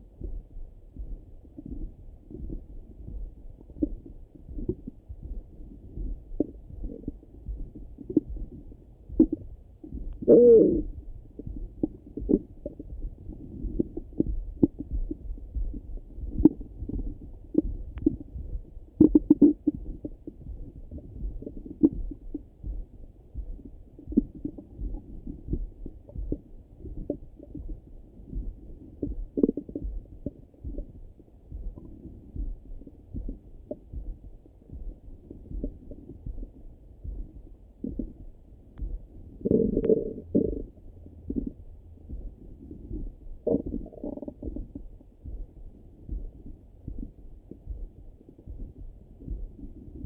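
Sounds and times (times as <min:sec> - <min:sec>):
stomach gurgles and pops: 0:00.2 - 0:50.0.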